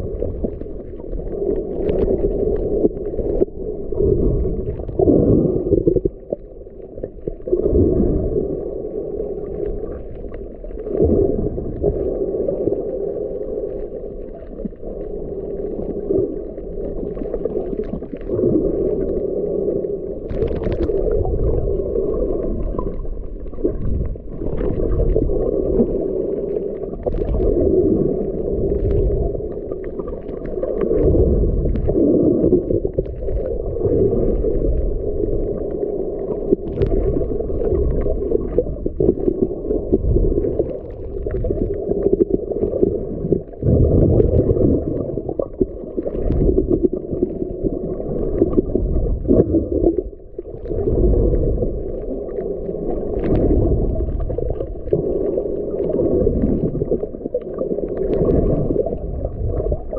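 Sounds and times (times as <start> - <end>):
faint crackles: 0.0 - 59.9
underwater rush of water: 0.0 - 59.9.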